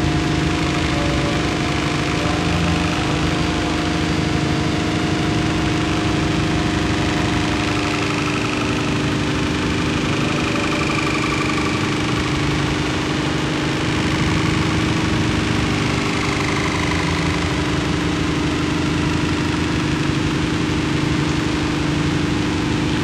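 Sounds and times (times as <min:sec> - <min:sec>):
distorted noise wall: 0:00.0 - 0:23.0
low drone: 0:00.0 - 0:23.0
rumbling engine-like churn: 0:00.0 - 0:23.0.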